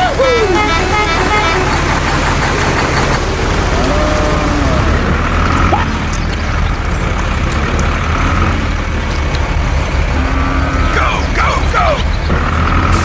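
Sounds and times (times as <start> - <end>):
engine running low rumble: 0.0 - 13.0.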